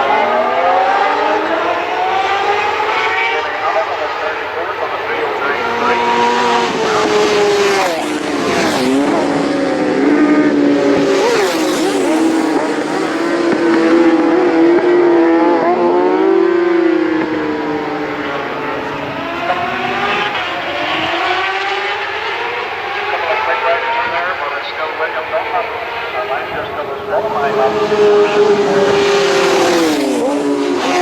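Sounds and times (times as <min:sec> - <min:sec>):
racing motorcycle engines: 0:00.0 - 0:31.0.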